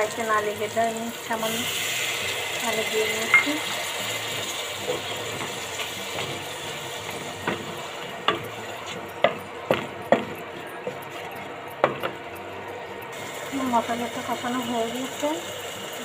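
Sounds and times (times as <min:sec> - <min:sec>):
paste sizzling in oil: 0:00.0 - 0:12.0, 0:13.0 - 0:16.0.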